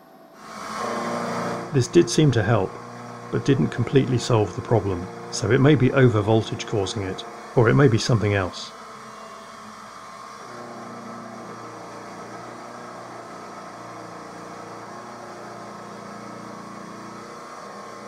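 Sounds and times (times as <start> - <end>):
milling machine cutting metal: 0.4 - 18.0.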